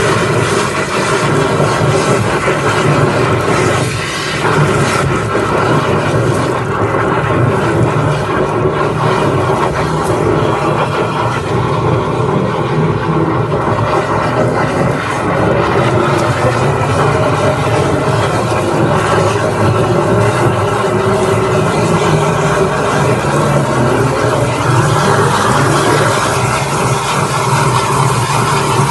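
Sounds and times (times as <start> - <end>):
drain jetter engine hum: 0.0 - 28.9
water rushing through hose: 0.0 - 28.9.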